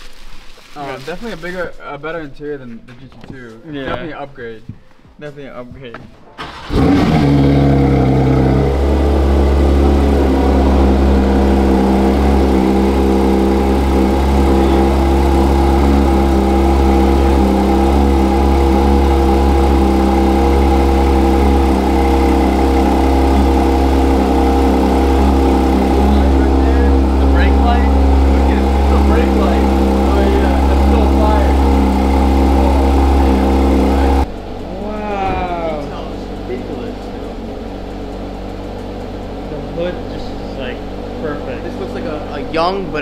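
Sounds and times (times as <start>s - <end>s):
car engine starting and idling: 6.3s - 43.0s.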